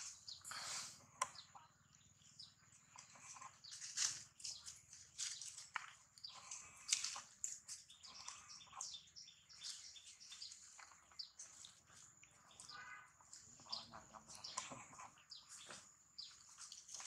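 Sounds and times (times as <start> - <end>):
soft ticks and rustles: 2.6 - 17.0.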